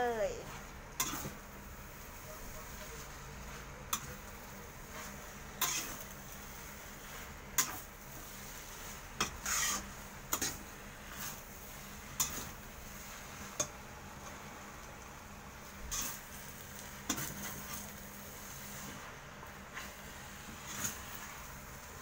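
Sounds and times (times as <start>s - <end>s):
metal spatula scraping wok: 0.3s - 14.4s, 15.7s - 22.0s.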